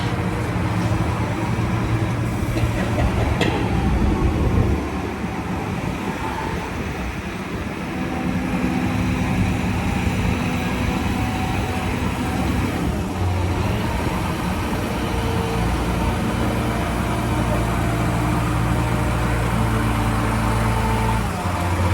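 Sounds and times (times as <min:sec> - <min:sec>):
heavy vehicle engine running: 0:00.0 - 0:21.9.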